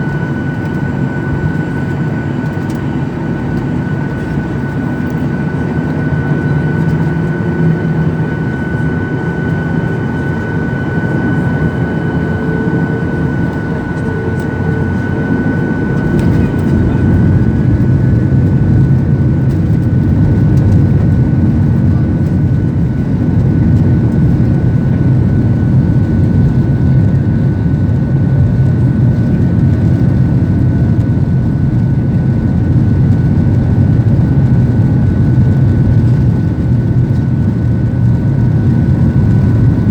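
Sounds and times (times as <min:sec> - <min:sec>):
jet engines roaring: 0:00.0 - 0:39.9
thin steady whine: 0:00.0 - 0:39.9.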